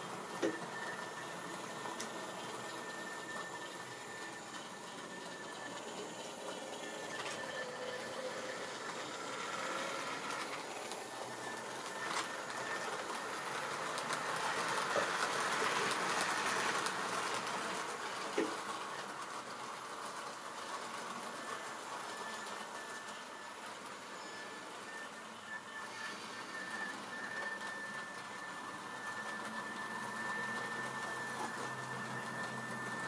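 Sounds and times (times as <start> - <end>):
model train rolling on track: 0.0 - 33.0.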